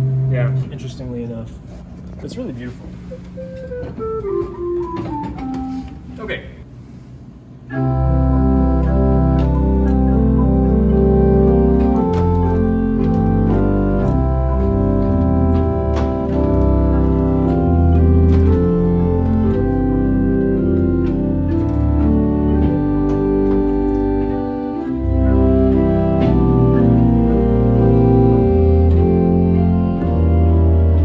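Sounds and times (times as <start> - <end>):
pipe organ playing chords: 0.0 - 1.3, 2.6 - 6.5, 7.7 - 31.0.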